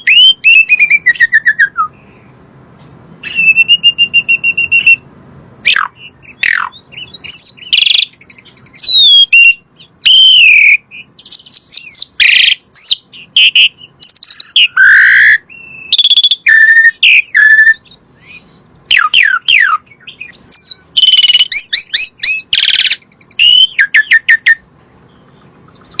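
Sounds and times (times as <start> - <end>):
starling singing: 0.0 - 2.4, 3.2 - 26.0.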